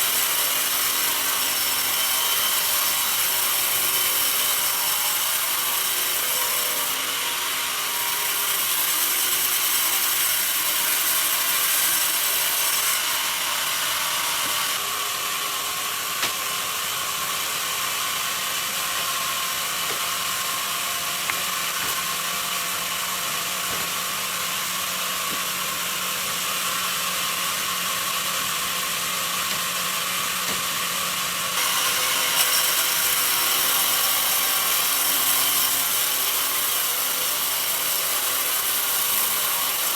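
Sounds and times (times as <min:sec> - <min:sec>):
bandsaw cutting log: 0:00.0 - 0:39.9.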